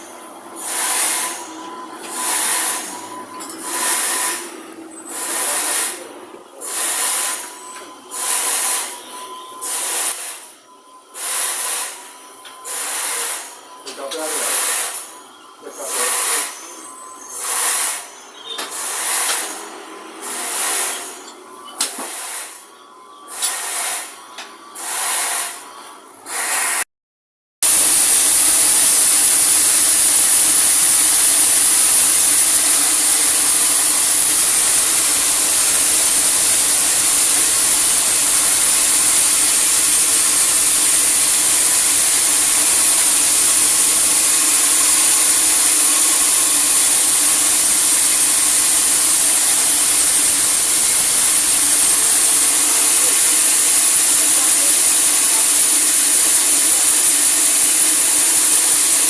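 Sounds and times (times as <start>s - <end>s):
saw cutting through log: 0.0s - 21.3s, 21.9s - 22.7s, 23.3s - 24.2s, 24.8s - 26.9s, 27.6s - 59.0s.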